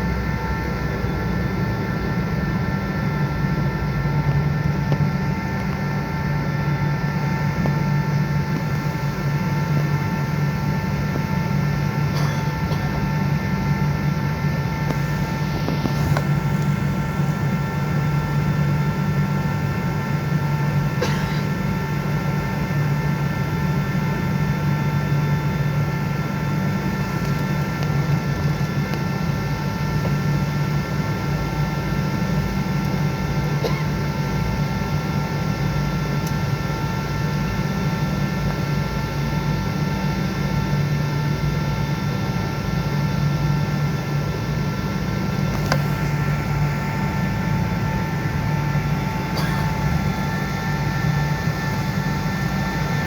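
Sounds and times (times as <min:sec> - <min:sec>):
airliner engine drone in cabin: 0:00.0 - 0:53.0.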